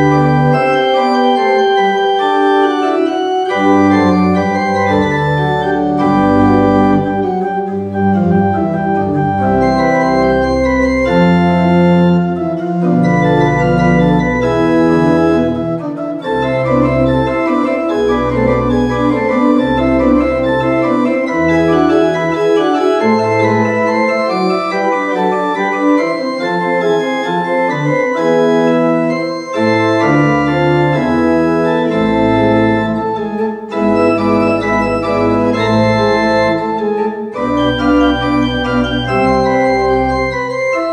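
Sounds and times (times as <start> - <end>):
pipe organ playing slow chords: 0.0 - 40.9.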